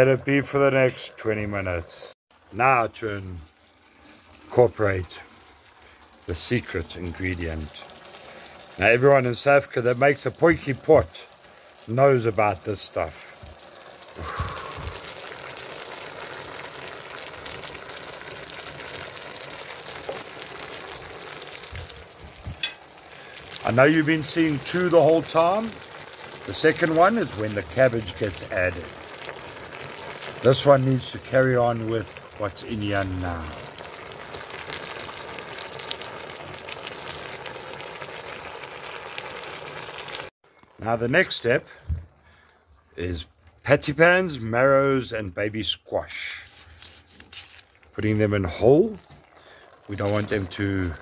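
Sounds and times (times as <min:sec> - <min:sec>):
pot of vegetables sizzling: 0:00.0 - 0:44.7, 0:46.4 - 0:51.0.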